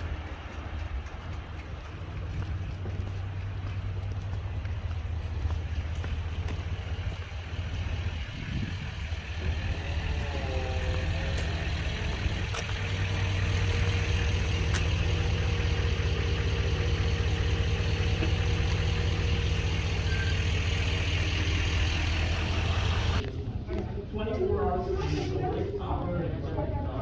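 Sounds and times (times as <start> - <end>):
engine idling: 0.0 - 23.2.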